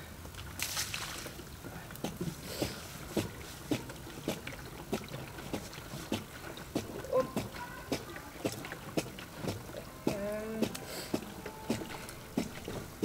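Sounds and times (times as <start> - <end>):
water glugging from canister: 2.0 - 13.0.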